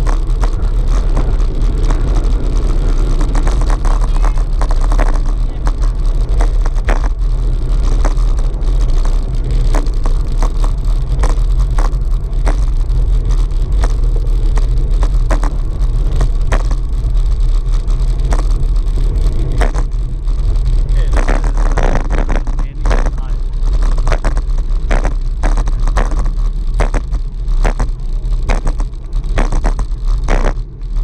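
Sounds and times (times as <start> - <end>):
tyre and road noise: 0.0 - 31.0
wind buffeting microphone: 0.0 - 31.0.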